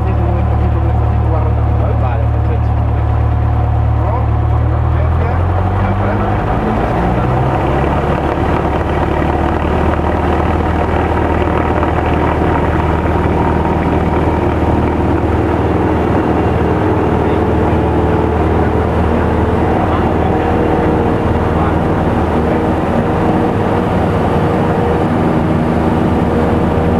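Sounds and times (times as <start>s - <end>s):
propeller aircraft engine running: 0.0s - 26.9s.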